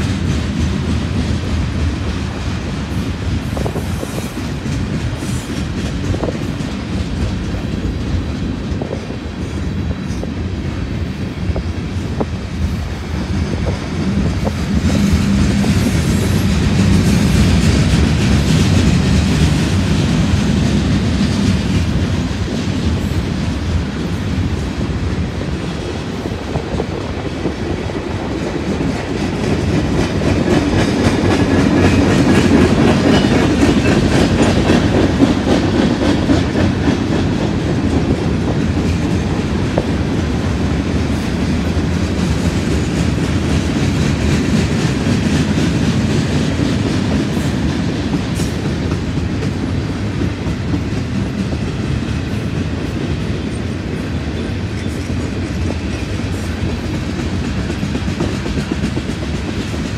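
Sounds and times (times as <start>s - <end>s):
freight train rolling past: 0.0s - 59.9s
wheels clickety-clack on track: 0.0s - 59.9s.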